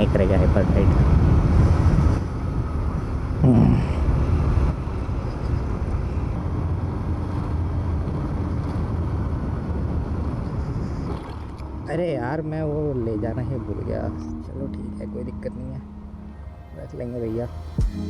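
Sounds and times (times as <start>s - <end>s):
wind on microphone: 0.0s - 14.6s
road rumble: 0.0s - 18.0s.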